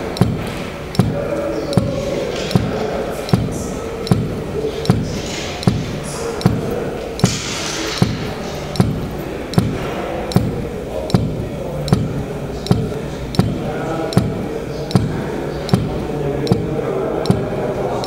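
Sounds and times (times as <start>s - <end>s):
drum beater knocking against wall: 0.2s - 13.6s, 14.2s - 16.7s.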